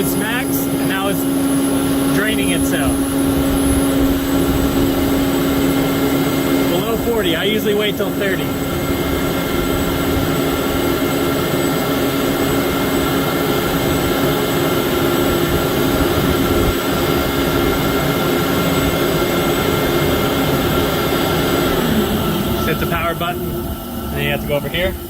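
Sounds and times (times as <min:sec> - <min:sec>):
air compressor running: 0:00.0 - 0:25.0.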